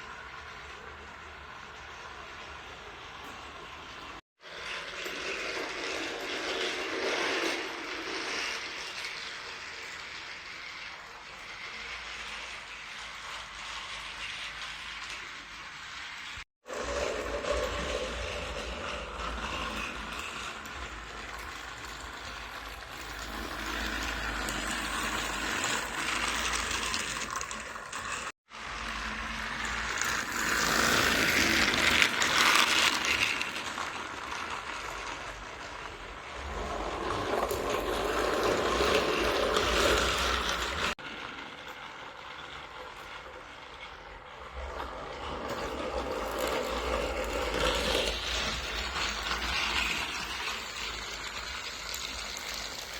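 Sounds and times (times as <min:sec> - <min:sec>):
toy train motor whirring: 0:00.0 - 0:52.9.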